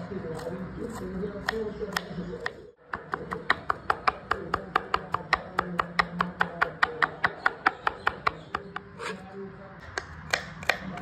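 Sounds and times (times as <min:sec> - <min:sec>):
knife chopping on board: 0:00.4 - 0:09.2, 0:09.8 - 0:11.0.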